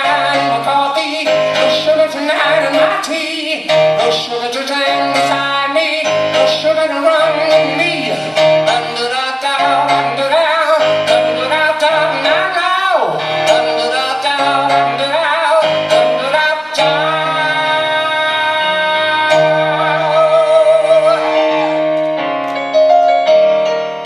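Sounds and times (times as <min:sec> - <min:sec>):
rock band playing: 0:00.0 - 0:18.0, 0:18.6 - 0:24.0.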